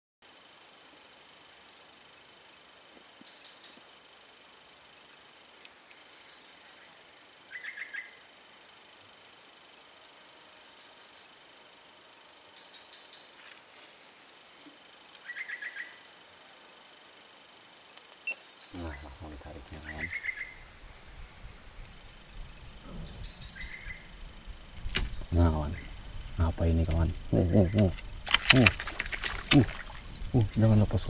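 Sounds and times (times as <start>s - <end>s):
insects droning: 0.2s - 31.0s.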